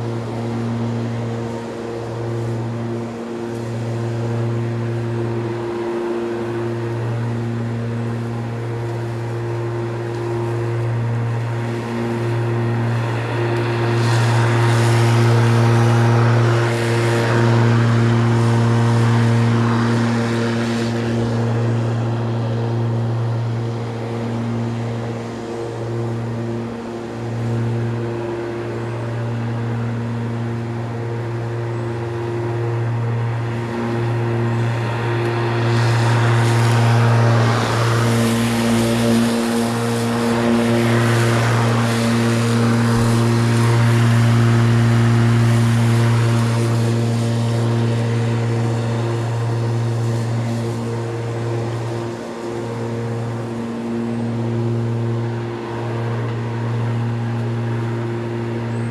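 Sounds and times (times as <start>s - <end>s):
blade rushing through grass: 0.0s - 58.9s
electric lawnmower running: 0.0s - 58.9s.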